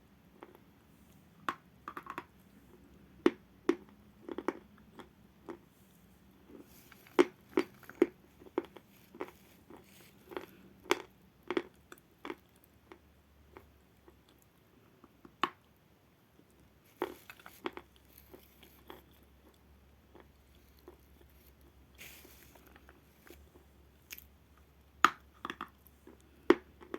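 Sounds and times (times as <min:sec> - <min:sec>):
chalk crunching while chewing: 0:02.3 - 0:15.4, 0:16.4 - 0:26.9.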